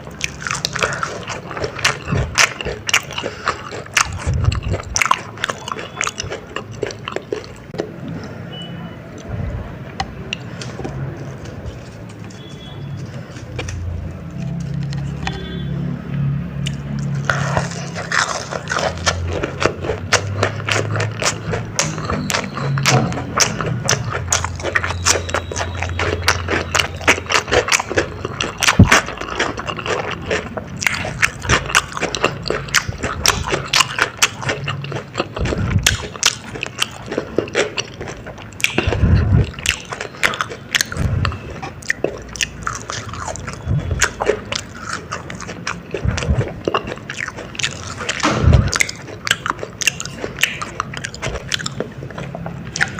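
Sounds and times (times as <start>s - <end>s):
crunchy corn dog chewing: 0.0s - 8.4s, 9.9s - 52.9s
low steady hum: 0.0s - 52.9s.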